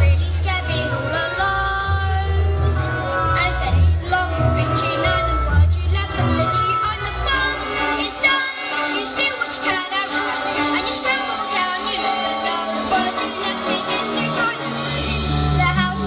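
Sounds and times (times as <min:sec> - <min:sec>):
boy singing: 0:00.0 - 0:16.0.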